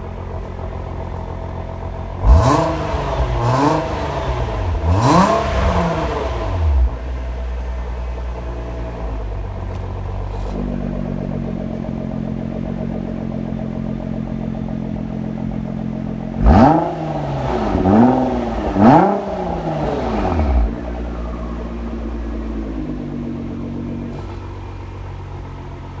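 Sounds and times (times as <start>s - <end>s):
car engine idling: 0.0s - 26.0s
engine revving: 0.7s - 7.7s, 8.3s - 26.0s.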